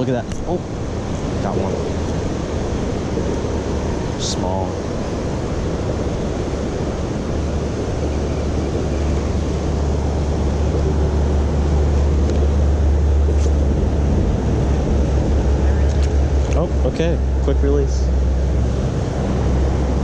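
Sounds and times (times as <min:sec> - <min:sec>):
creek water over weir: 0:00.0 - 0:20.0
wind buffeting microphone: 0:00.0 - 0:20.0.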